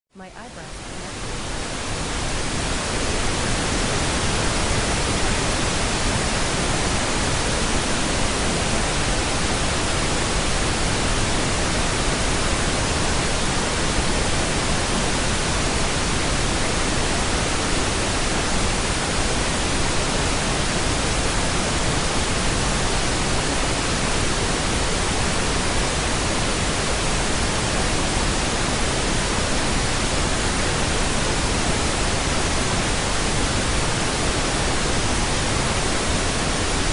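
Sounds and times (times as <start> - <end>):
pink noise hiss: 0.2 - 36.9.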